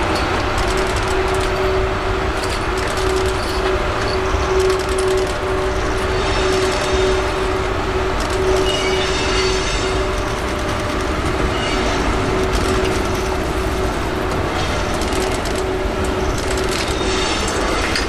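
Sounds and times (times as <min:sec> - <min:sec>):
train wheels rumbling on rails: 0:00.0 - 0:18.0
wheel squeal: 0:00.0 - 0:18.0.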